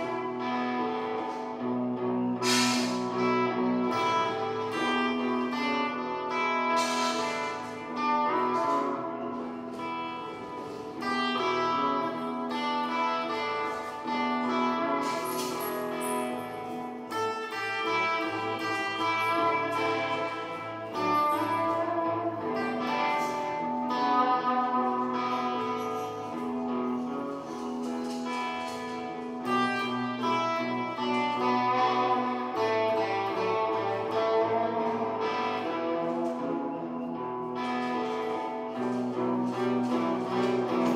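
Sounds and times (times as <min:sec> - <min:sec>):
blues guitar: 0:00.0 - 0:40.9.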